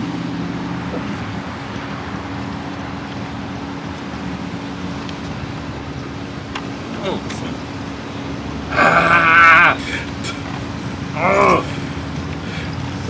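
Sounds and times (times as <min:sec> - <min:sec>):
engine bay mechanical hum: 0:00.0 - 0:13.0
rushing wind-like noise: 0:00.0 - 0:13.0.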